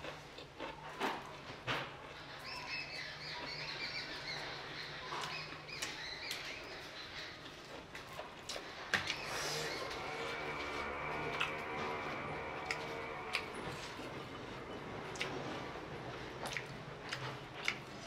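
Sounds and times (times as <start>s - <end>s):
mouth chewing food: 0.0s - 18.0s
birds chirping: 2.1s - 18.0s.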